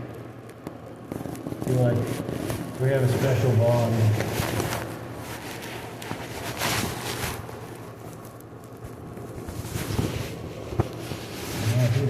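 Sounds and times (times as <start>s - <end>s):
steady low hum: 0.0s - 12.0s
clothing rubbing on microphone: 1.1s - 12.0s.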